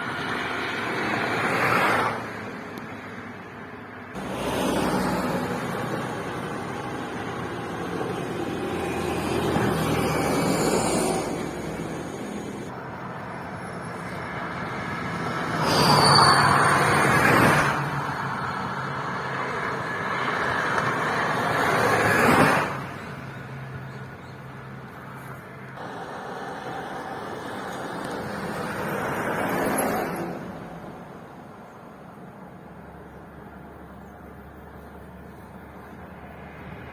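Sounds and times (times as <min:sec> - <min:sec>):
vehicles passing on road: 0:00.0 - 0:36.9.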